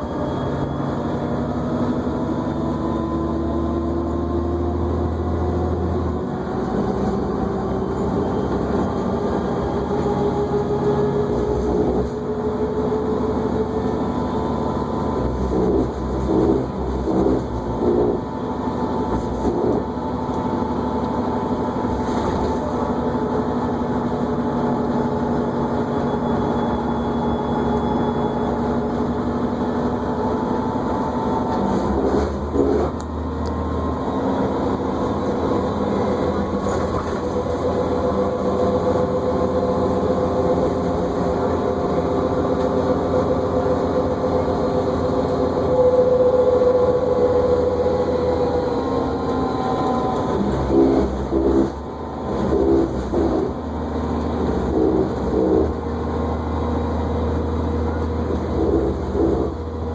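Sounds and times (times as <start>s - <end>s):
bus engine and drivetrain noise: 0.0s - 59.9s
drivetrain whine: 0.0s - 59.9s.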